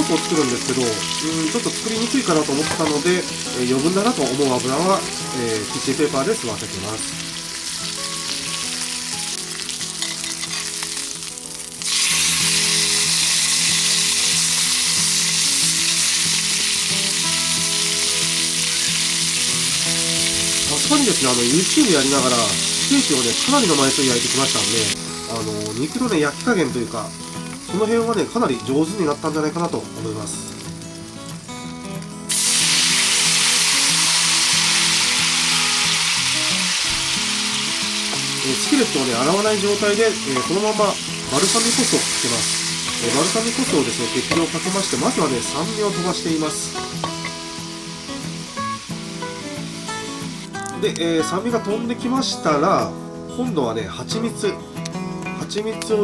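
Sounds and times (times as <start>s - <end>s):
steak sizzling in a skillet: 0.0s - 51.8s.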